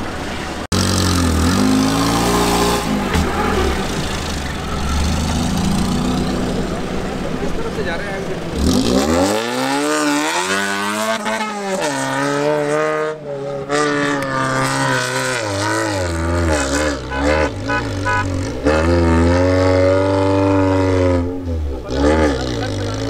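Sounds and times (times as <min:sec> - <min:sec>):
car engine revving hard: 0:00.7 - 0:06.7, 0:08.4 - 0:23.0.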